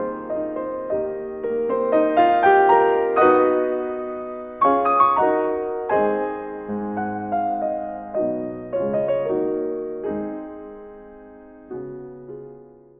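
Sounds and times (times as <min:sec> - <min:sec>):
piano music: 0:00.0 - 0:12.9.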